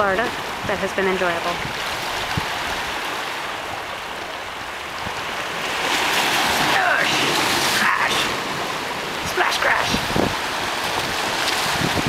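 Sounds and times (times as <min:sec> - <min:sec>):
waves splashing against rocks: 0:00.0 - 0:12.0.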